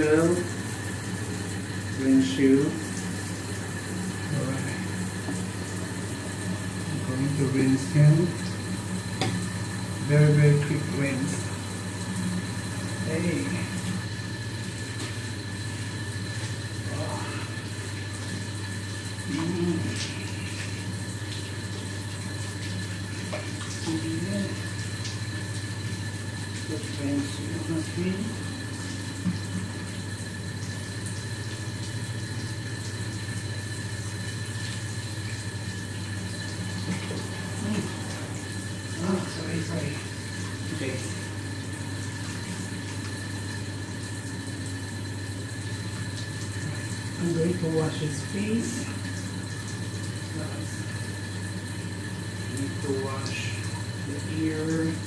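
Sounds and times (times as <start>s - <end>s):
steady low hum: 0.0s - 55.0s
tap water running: 0.0s - 55.0s.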